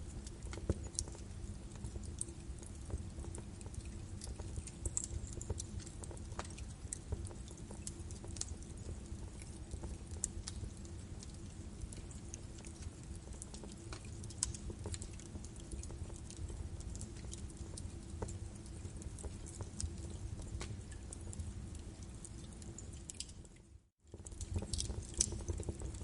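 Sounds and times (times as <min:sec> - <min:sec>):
fire flames rumbling: 0:00.0 - 0:23.5, 0:24.1 - 0:26.0
burning logs crackling and popping: 0:00.0 - 0:26.0.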